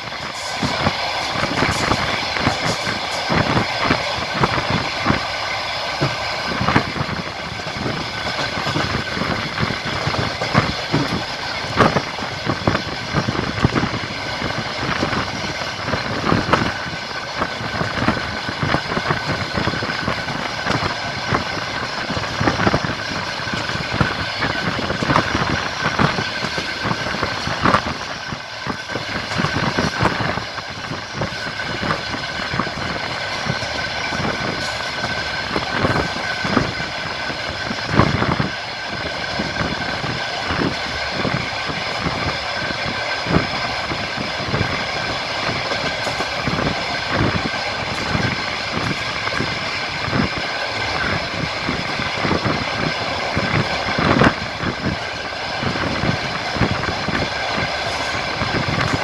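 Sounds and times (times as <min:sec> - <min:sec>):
train running hum: 0:00.0 - 0:59.0
train wheels clattering on rails: 0:00.0 - 0:59.0.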